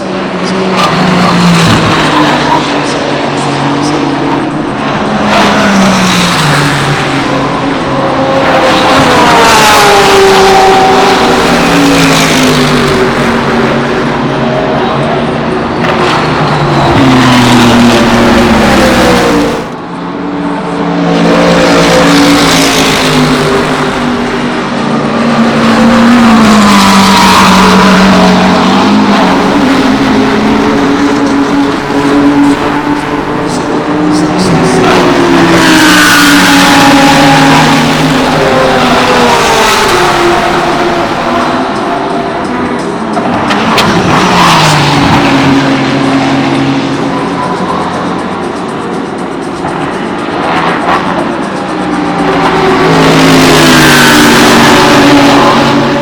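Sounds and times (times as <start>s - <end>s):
race cars passing at speed: 0.0s - 56.0s.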